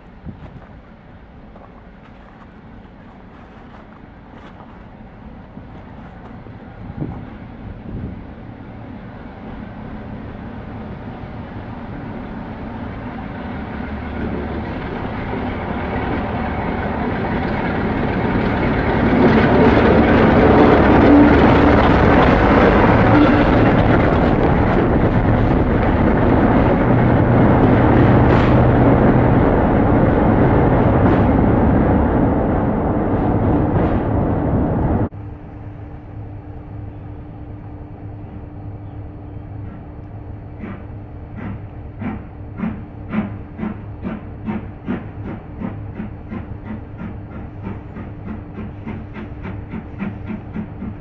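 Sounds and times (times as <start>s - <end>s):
diesel locomotive engine running: 0.0s - 51.0s.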